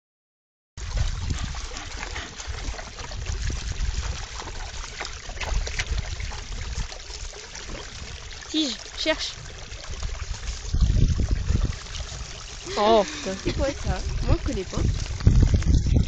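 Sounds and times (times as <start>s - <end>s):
dog splashing in water: 0.8s - 16.0s
stream trickling: 0.8s - 16.0s.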